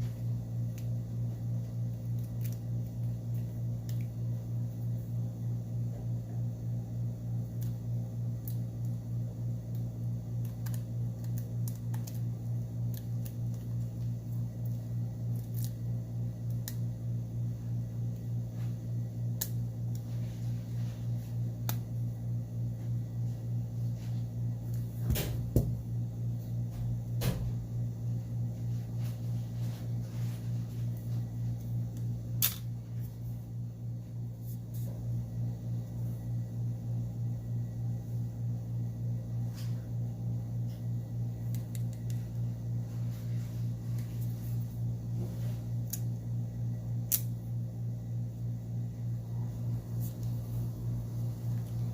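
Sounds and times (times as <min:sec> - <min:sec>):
low pulsing hum: 0:00.0 - 0:51.9.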